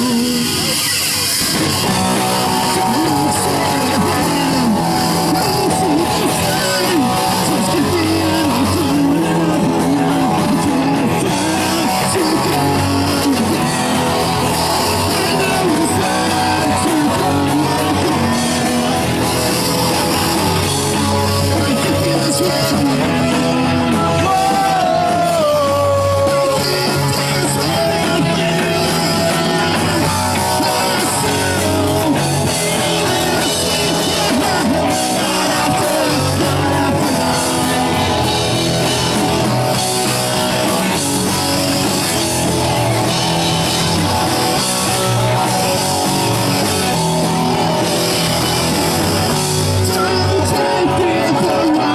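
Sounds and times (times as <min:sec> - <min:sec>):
person singing: 0:00.0 - 0:51.9
punk band playing loud: 0:00.0 - 0:51.9.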